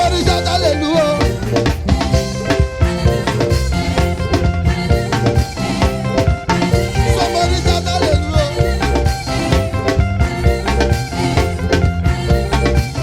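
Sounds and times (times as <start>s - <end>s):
band playing upbeat gospel groove: 0.0s - 13.0s
drum kit beat: 0.0s - 13.0s.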